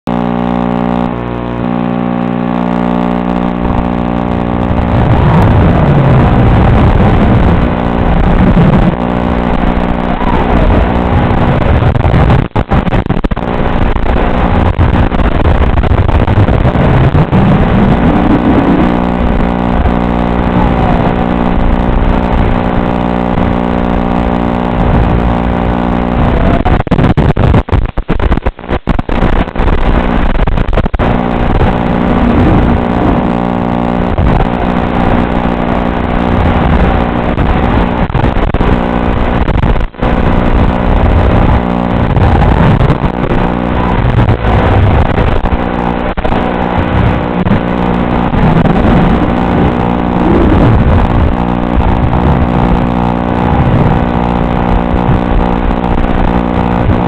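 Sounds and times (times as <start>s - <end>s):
drone motor hum: 0.1s - 57.0s.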